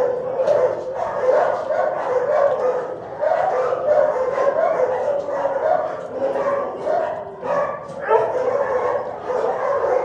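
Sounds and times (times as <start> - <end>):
dogs barking: 0.0 - 10.0.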